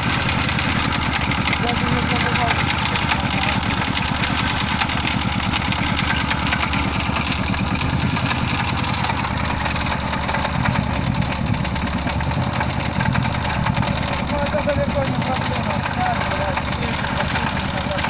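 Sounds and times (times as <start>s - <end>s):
car engine idling: 0.0s - 18.0s
rhythmic camshaft knock: 0.0s - 18.0s.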